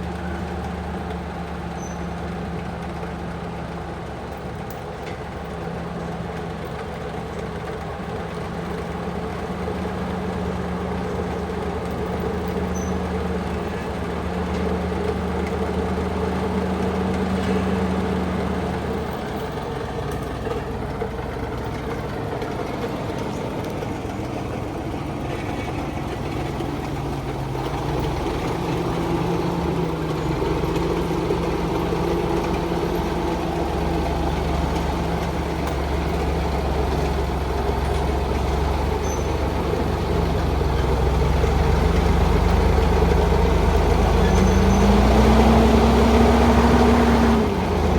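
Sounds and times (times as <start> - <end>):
heavy truck engine under load: 0.0 - 47.9.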